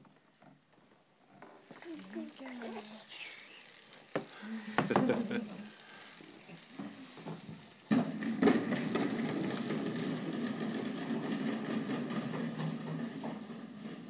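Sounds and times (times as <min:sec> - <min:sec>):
toy car electric motors whirring: 0:01.4 - 0:14.0.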